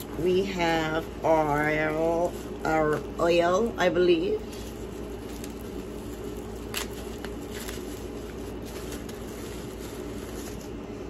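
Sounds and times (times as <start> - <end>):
bubble wrap crinkling: 0.0 - 11.0
low room hum: 0.0 - 11.0.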